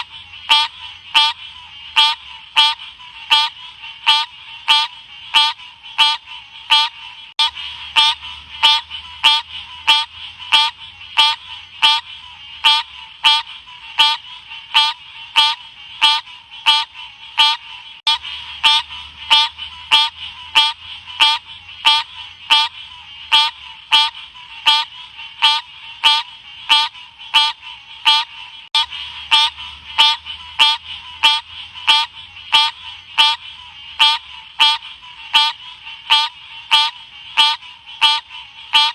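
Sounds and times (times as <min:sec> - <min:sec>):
frog calling sharp notes: 0:00.0 - 0:38.9.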